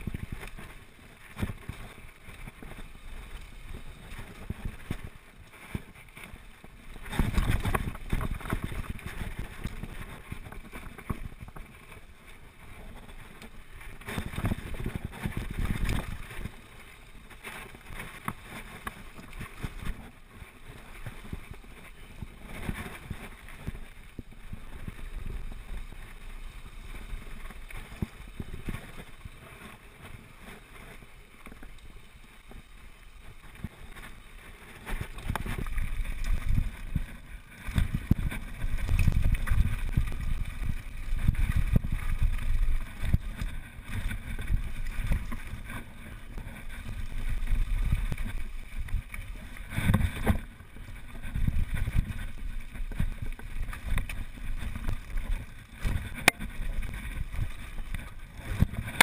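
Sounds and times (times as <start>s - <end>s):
bike rattling on dirt trail: 0.0s - 59.0s
wind rumbling on microphone: 0.0s - 59.0s.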